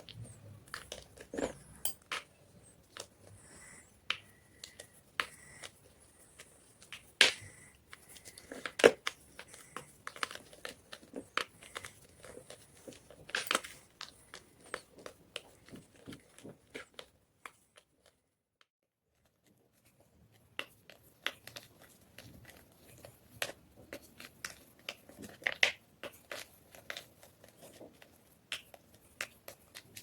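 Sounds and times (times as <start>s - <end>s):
sharp chalk cracks: 2.9s - 17.9s, 20.4s - 30.0s.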